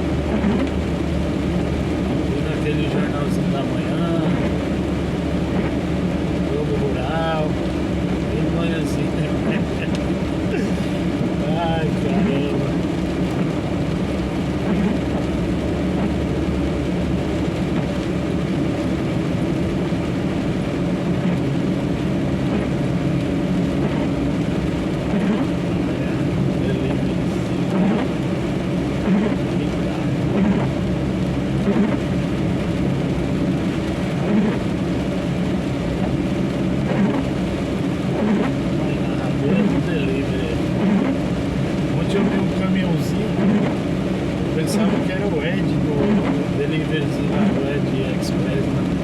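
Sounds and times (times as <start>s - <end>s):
diesel truck engine drone: 0.0s - 49.0s
road noise: 0.0s - 49.0s.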